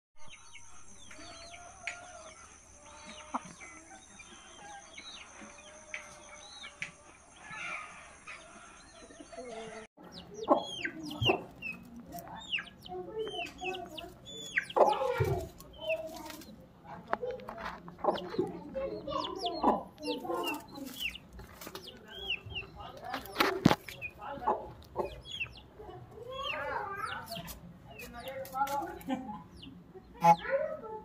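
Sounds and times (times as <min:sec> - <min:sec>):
chickens chirping and clucking: 0:00.2 - 0:31.0.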